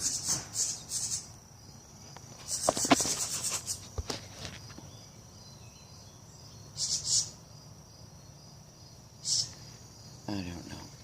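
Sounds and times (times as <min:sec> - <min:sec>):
harsh bird scolding calls: 0:00.0 - 0:04.0, 0:04.6 - 0:11.0
insect trilling: 0:00.0 - 0:11.0.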